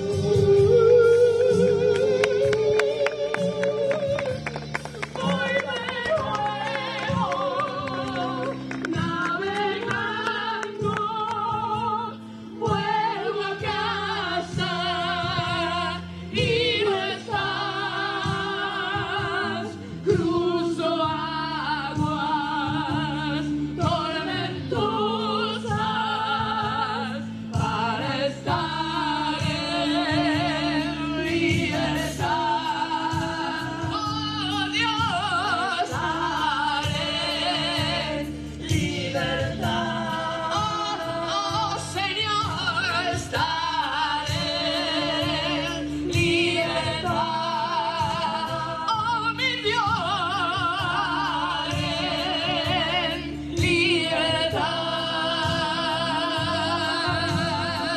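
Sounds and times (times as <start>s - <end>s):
sustained musical accompaniment: 0.0s - 57.9s
woman singing with vibrato: 0.0s - 57.9s.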